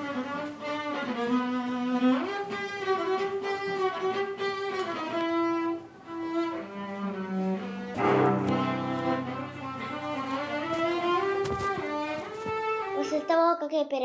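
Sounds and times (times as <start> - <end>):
bowed strings slow melody: 0.0 - 13.2.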